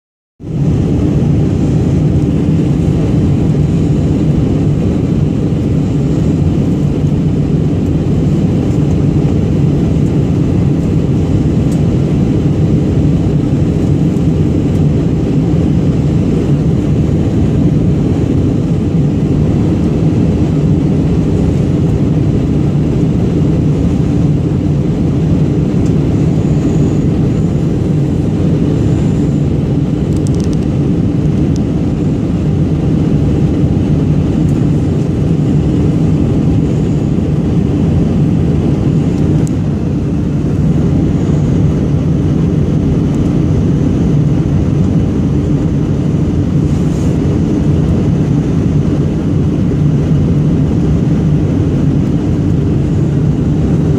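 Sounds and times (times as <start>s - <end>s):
jet airliner cabin rumble: 0.4s - 53.9s.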